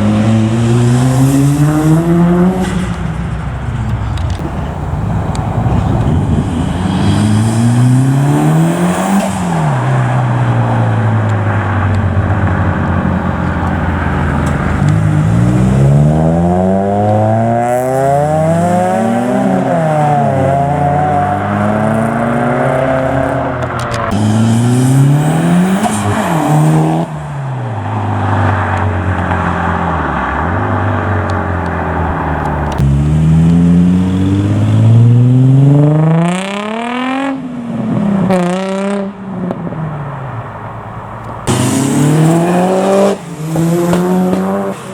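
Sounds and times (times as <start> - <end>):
car engines revving and accelerating: 0.0 - 44.9.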